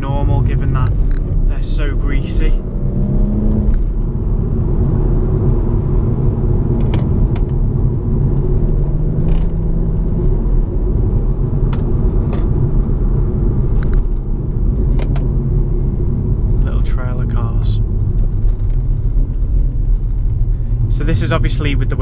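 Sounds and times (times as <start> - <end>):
car engine and exhaust cruising: 0.0 - 22.0
road rumble: 0.0 - 22.0.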